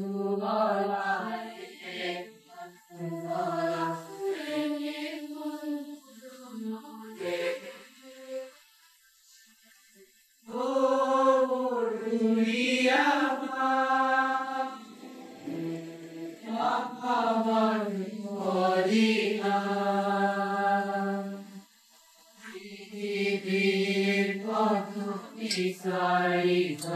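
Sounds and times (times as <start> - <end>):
choir singing: 0.0 - 8.6, 10.5 - 21.7, 22.3 - 26.9.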